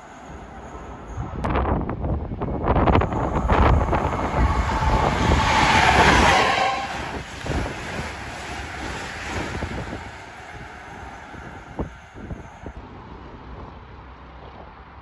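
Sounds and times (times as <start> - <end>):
train passing with rumble: 0.0 - 15.0.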